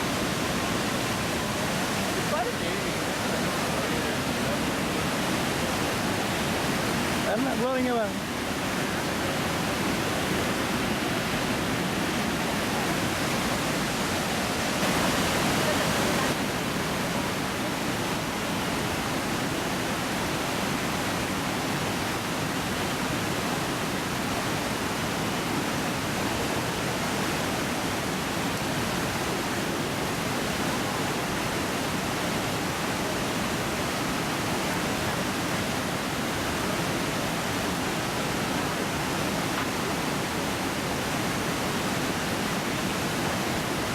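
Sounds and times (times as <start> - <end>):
waterfall roaring: 0.0 - 43.9.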